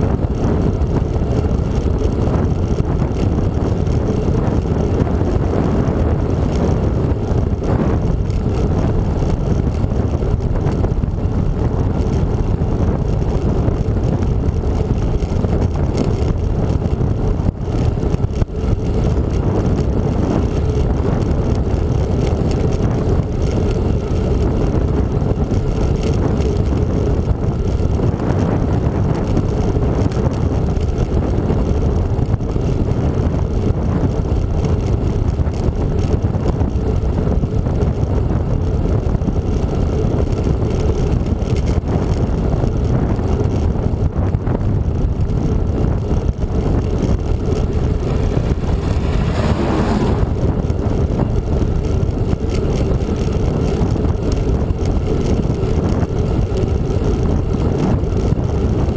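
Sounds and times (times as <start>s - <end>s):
wind rumbling on microphone: 0.0s - 58.9s.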